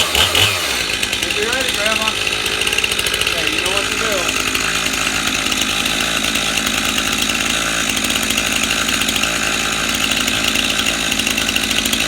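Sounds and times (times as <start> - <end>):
chainsaw idling: 0.0 - 12.0.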